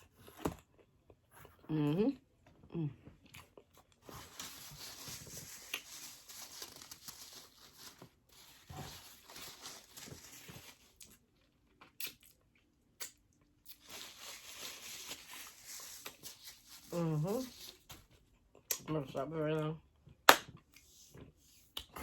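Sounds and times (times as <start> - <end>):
eating and crunching food: 0.0 - 19.1.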